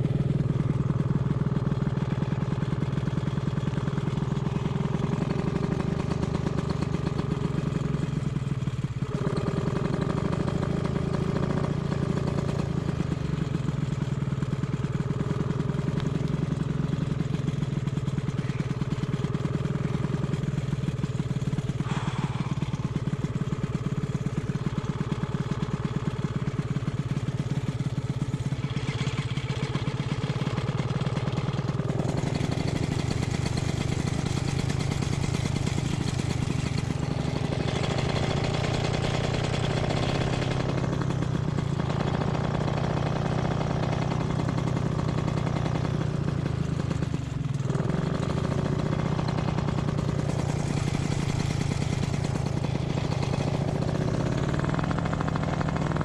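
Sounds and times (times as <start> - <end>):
paramotor engine idling: 0.0 - 56.0.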